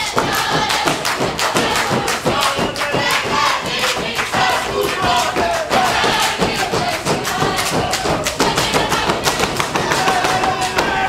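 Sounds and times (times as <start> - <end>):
dancers stamping and clapping: 0.0 - 11.0.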